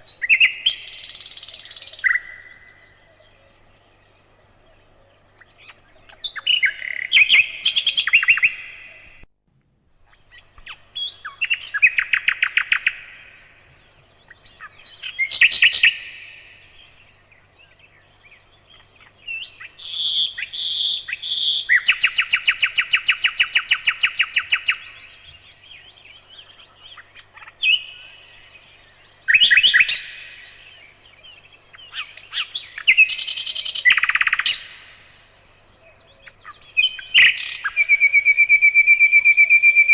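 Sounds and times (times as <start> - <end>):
nightingale singing: 0.0 - 9.3, 9.9 - 39.9.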